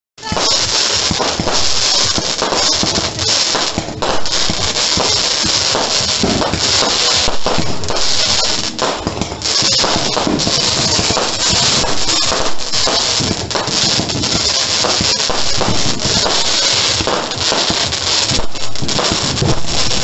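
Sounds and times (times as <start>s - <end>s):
fireworks crackling and popping: 0.2s - 20.0s
hiss of sparks: 0.2s - 20.0s
sharp bangs: 0.2s - 20.0s.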